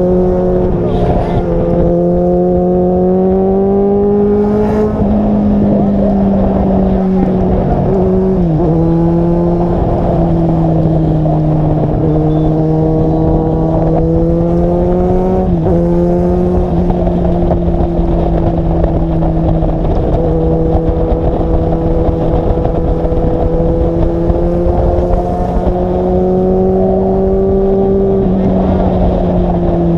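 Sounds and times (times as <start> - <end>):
car engine droning: 0.0 - 29.9.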